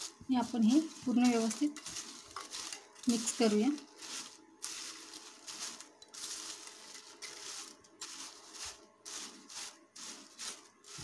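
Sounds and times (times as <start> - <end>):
spoon tossing crisp snacks in pan: 0.0 - 11.0.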